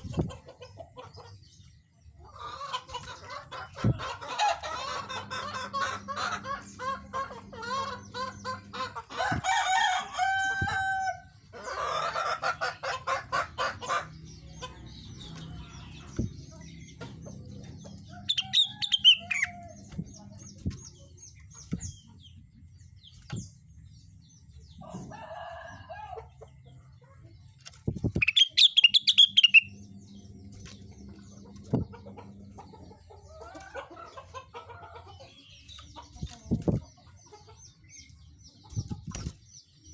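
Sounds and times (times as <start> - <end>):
bird calling with rapid clucking: 0.0 - 39.9.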